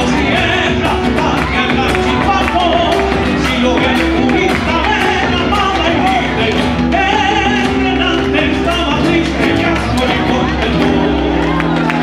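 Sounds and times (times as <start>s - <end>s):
acoustic guitars playing: 0.0s - 12.0s
man singing: 0.0s - 12.0s.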